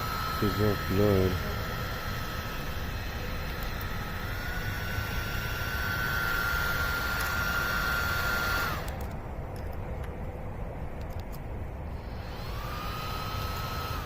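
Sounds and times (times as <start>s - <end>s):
cooling fan whining: 0.0s - 14.0s.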